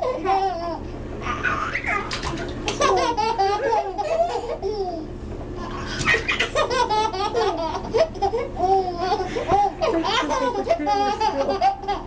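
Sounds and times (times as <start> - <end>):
babies giggling: 0.0 - 12.0.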